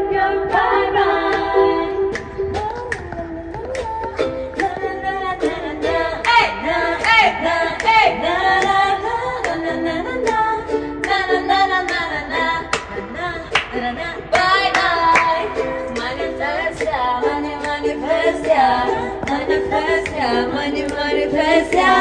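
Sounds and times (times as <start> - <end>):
song with singing over beat: 0.0 - 22.0.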